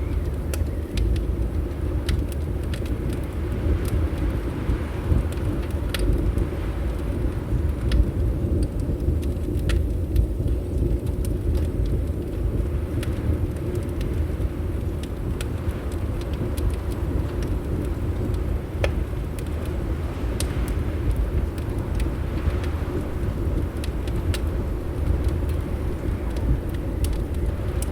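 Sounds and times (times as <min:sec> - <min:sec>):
fire popping: 0:00.0 - 0:27.9
low rumble of wind: 0:00.0 - 0:27.9
wood fire crackling: 0:00.0 - 0:27.9.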